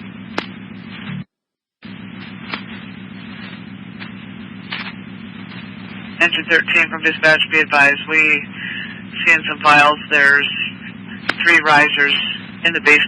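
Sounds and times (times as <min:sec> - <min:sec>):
buzzing hum: 0:00.0 - 0:13.0
radio static hiss: 0:00.2 - 0:13.0.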